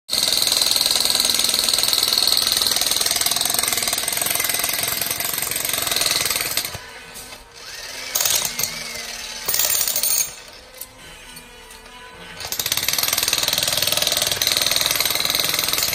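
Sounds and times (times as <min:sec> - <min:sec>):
jackhammer pounding rocky ground: 0:00.1 - 0:06.9, 0:07.6 - 0:10.6, 0:12.4 - 0:15.9.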